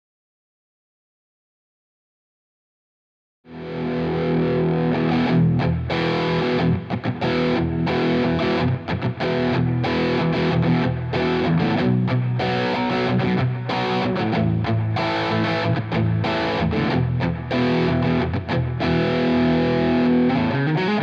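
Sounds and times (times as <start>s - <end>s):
distorted electric guitar chords: 3.5s - 21.0s.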